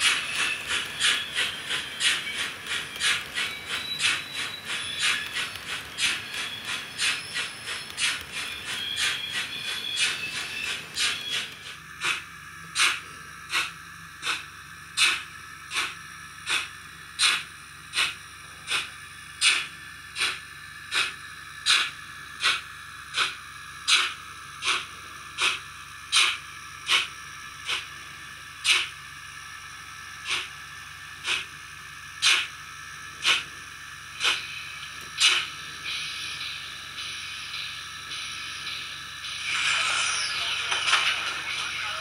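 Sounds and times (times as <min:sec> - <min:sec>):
steady steam hiss: 0:00.0 - 0:28.0, 0:28.6 - 0:42.0
steam locomotive exhaust chuffs: 0:00.0 - 0:42.0.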